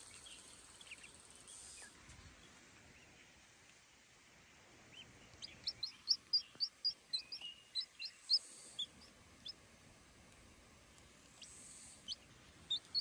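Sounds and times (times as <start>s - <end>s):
baby chick peeping: 0.0s - 3.2s, 4.8s - 13.0s.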